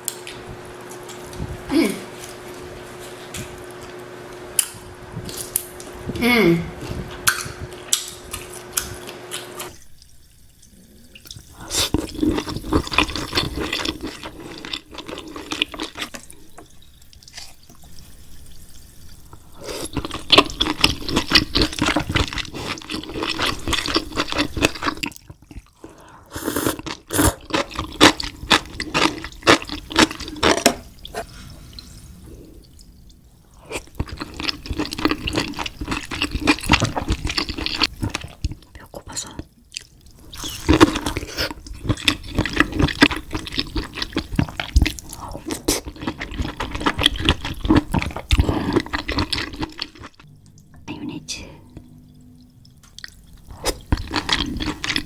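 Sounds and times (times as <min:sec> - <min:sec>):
seafood squelching and dripping: 0:09.7 - 0:55.0.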